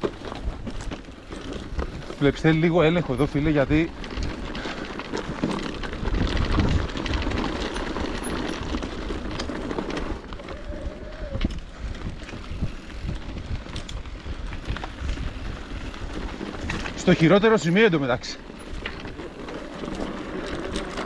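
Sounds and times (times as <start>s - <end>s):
bike rattling and knocking: 0.0s - 21.0s
tyres rolling over rock and dirt: 0.0s - 21.0s.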